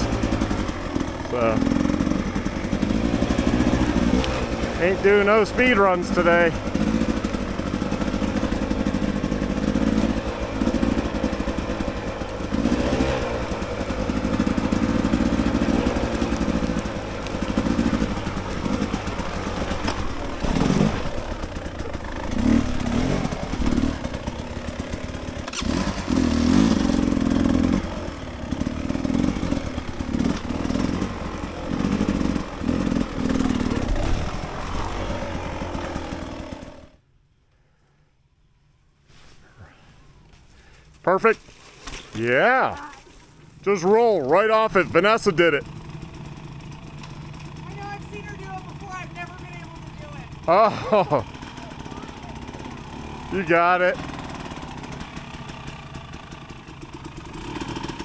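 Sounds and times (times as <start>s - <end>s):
dirt bike engine revving: 0.0s - 37.0s, 43.6s - 58.0s.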